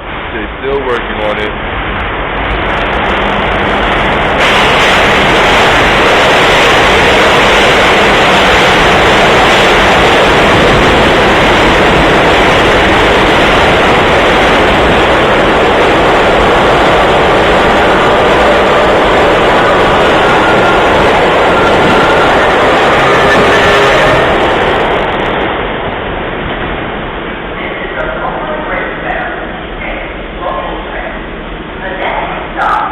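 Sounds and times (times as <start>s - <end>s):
subway train rushing roar: 0.0s - 32.9s.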